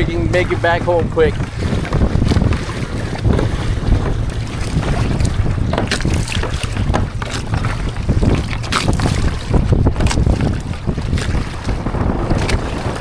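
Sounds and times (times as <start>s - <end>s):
water splashing against hull: 0.0s - 13.0s
wind buffeting microphone: 0.0s - 13.0s.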